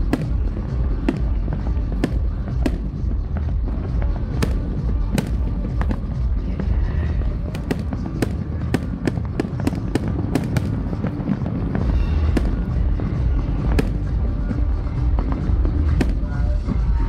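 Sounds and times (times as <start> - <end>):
deep constant rumble: 0.0 - 17.0
fireworks bangs and crackles: 0.0 - 17.0.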